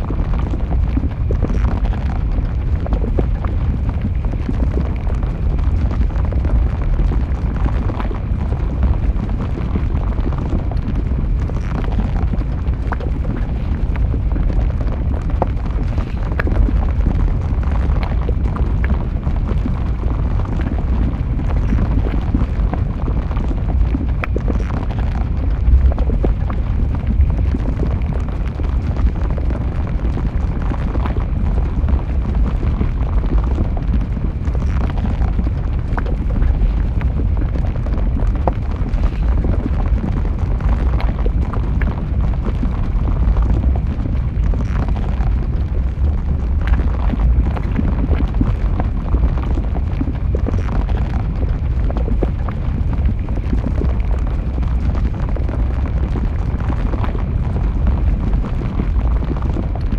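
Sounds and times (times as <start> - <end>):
lava crackles and pops: 0.0 - 59.9
lava deep rumble: 0.0 - 59.9.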